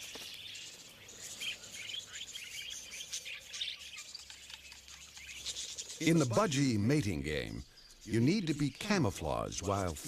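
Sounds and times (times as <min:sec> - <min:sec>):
budgerigars chattering: 0:00.0 - 0:10.0.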